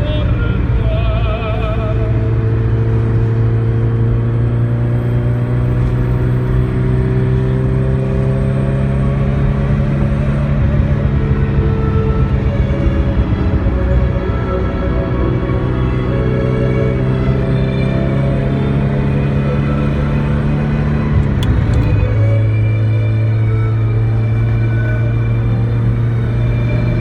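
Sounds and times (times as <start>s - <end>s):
car engine accelerating: 0.0s - 27.0s
road and wind noise: 0.0s - 27.0s.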